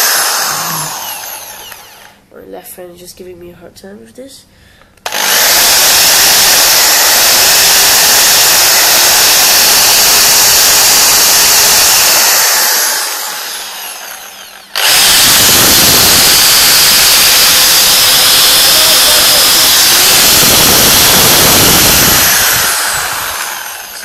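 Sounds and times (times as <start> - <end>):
hammer drill running: 0.0 - 2.2, 5.0 - 24.0.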